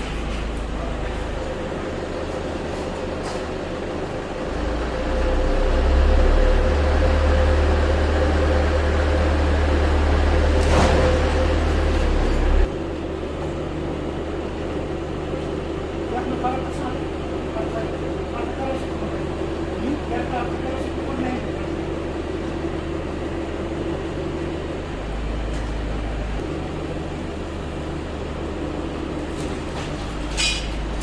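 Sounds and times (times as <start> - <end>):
truck engine running with whine: 0.0 - 31.0.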